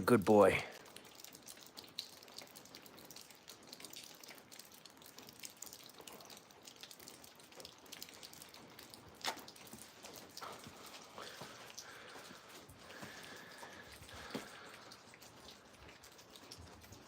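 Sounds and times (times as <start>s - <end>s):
drips ticking: 0.0s - 17.0s
freezing rain pattering: 0.0s - 17.0s.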